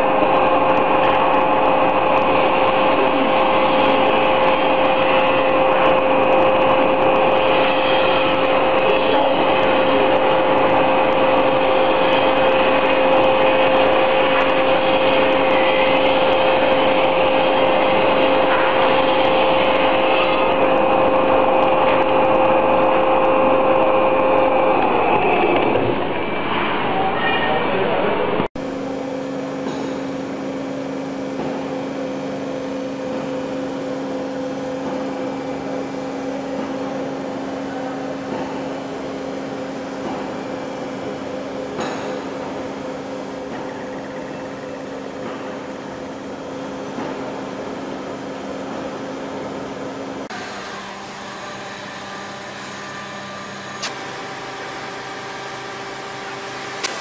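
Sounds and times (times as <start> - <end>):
different steady machine hum: 0.0 - 57.0
lathe machine hum: 0.0 - 57.0.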